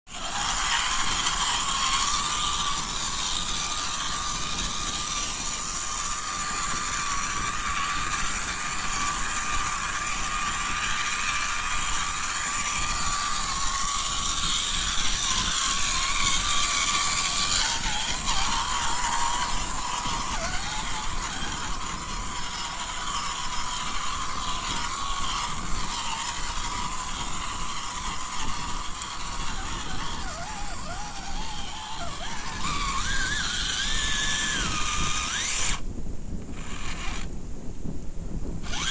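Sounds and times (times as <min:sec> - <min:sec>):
toy car electric motor whining: 0:00.1 - 0:37.4, 0:38.6 - 0:38.9.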